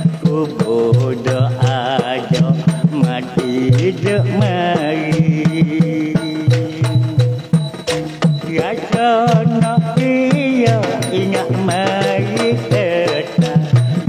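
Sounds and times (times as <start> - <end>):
hand drums beating: 0.0 - 14.0
ornamented melody line: 0.0 - 14.0.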